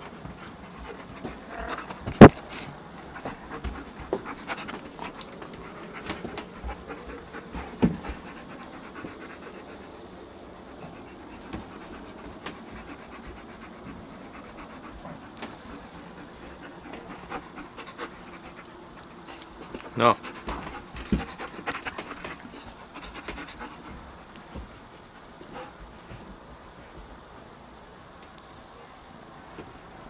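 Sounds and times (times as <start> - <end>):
dog panting: 0.0 - 27.3.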